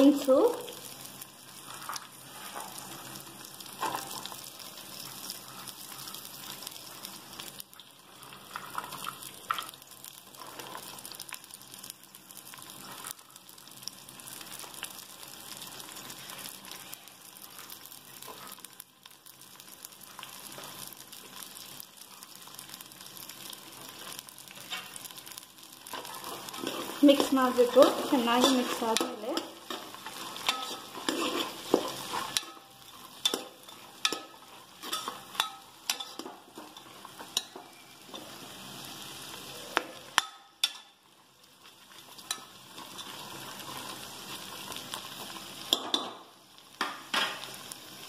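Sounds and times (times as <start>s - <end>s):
vegetables sizzling in butter: 0.0s - 48.0s.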